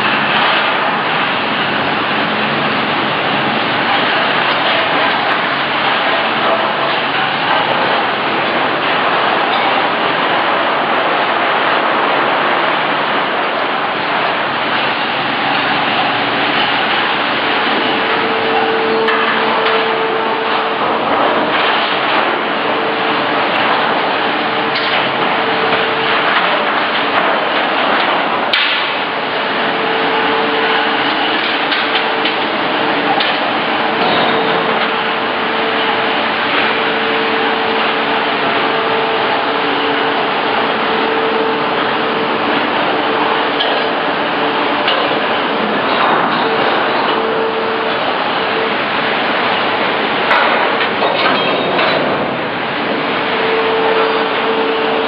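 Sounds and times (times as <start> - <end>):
industrial machinery hum: 0.0 - 55.0
loud steady mechanical noise: 0.0 - 55.0.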